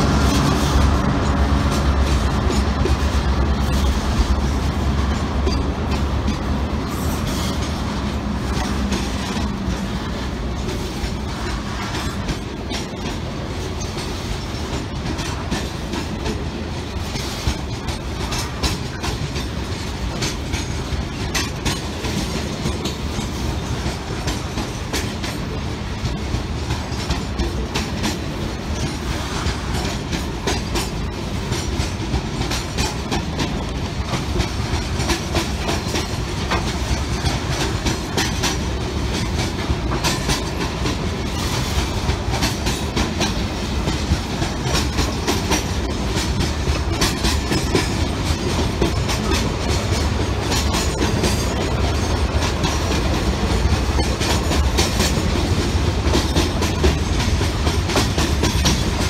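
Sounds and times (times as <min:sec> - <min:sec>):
freight train rumble: 0:00.0 - 0:59.0
wheels clacking over rail joints: 0:00.0 - 0:59.0.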